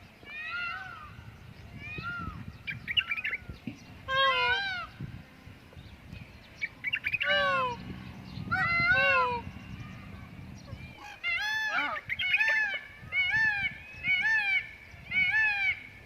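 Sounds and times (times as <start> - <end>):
peafowl wailing calls: 0.2 - 5.0, 6.6 - 16.0.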